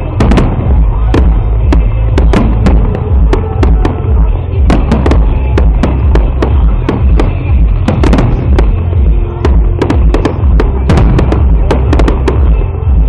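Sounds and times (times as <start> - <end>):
fireworks bursting: 0.0 - 13.0
loud music with heavy bass: 0.0 - 13.0.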